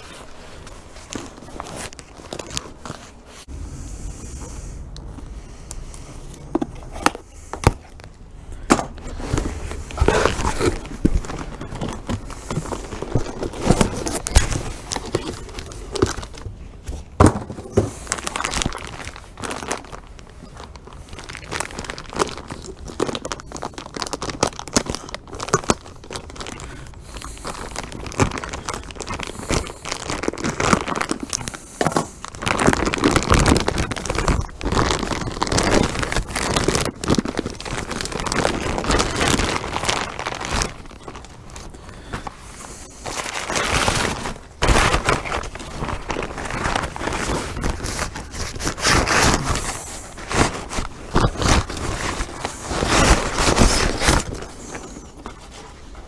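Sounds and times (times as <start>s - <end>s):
plastic wrap crinkling and tearing: 0.0s - 3.5s, 5.5s - 56.0s.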